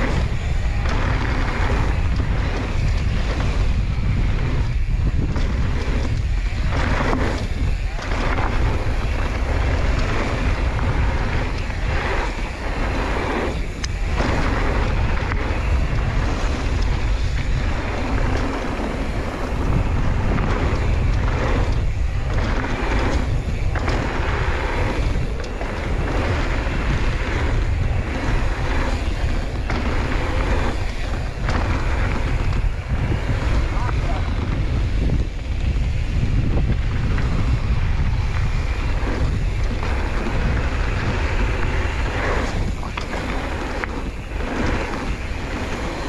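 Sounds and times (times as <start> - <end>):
low rumble from bike ride: 0.0 - 46.0
wind buffeting microphone: 0.0 - 46.0.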